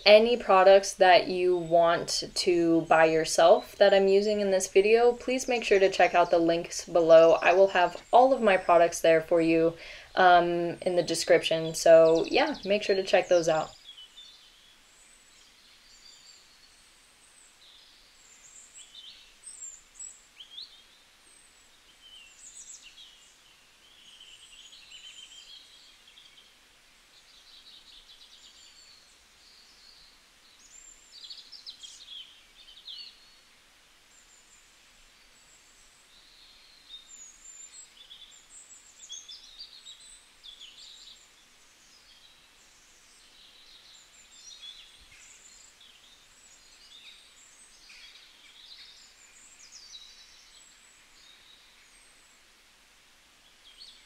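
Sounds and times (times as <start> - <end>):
low steady background hiss: 0.0 - 54.0
small birds chirping: 0.0 - 54.0.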